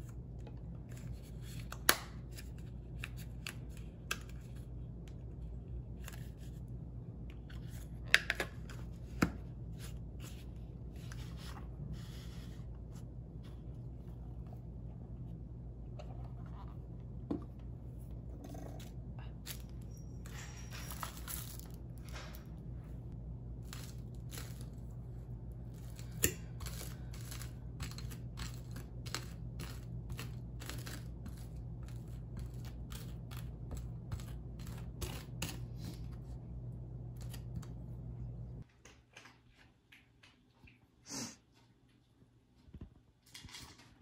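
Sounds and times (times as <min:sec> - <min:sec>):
steady low hum: 0:00.0 - 0:38.7.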